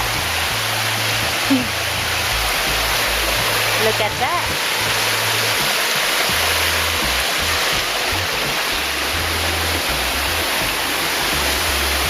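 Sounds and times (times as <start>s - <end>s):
low background music: 0.0s - 12.0s
waterfall pouring into pool: 0.0s - 12.0s.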